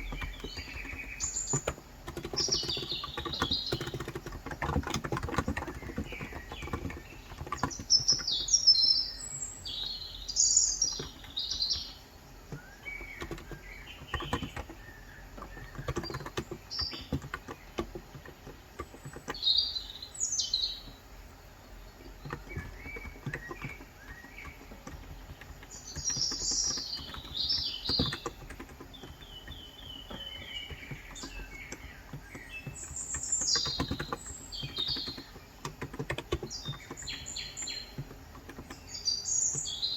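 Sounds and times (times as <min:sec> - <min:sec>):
keyboard keystrokes: 0:00.0 - 0:08.5, 0:10.8 - 0:19.5, 0:22.0 - 0:39.9
small birds chirping: 0:00.0 - 0:39.9.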